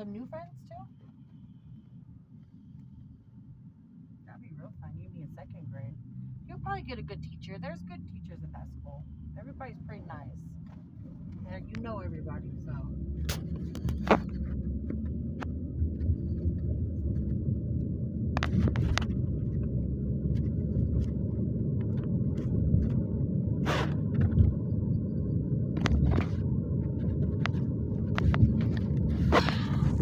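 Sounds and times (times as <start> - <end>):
car road noise rumble: 0.0 - 30.0.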